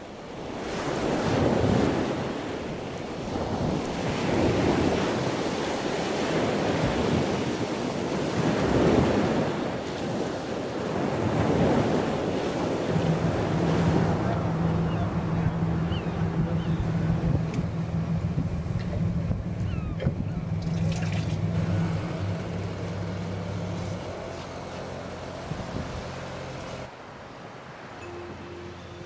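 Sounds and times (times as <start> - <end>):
sea waves washing in: 0.0 - 29.0.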